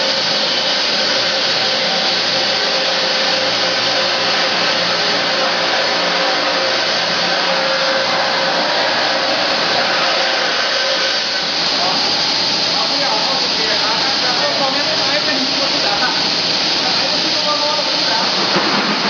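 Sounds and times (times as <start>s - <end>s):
cutting machine whirring hiss: 0.0s - 19.0s.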